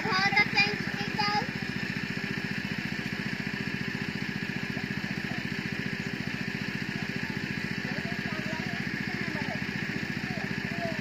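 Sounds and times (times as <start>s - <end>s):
small engine chugging: 0.0s - 11.0s.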